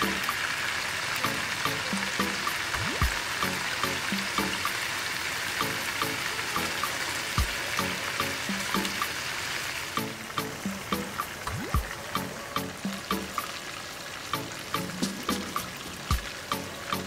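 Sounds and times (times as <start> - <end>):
background music with beat: 0.0 - 0.4, 1.2 - 4.9, 5.6 - 9.2, 9.9 - 13.6, 14.3 - 17.0
fish sizzling in a frying pan: 0.0 - 17.0.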